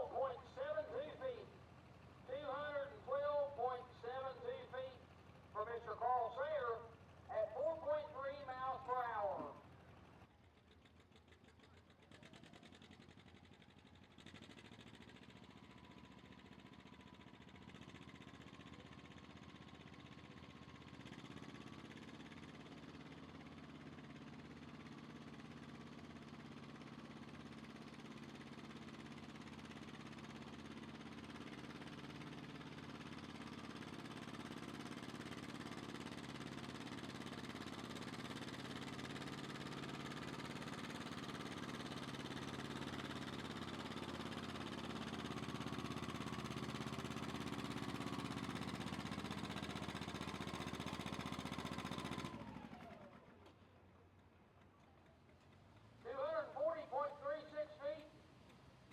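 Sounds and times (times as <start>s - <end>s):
vehicle engine running: 0.0s - 58.9s.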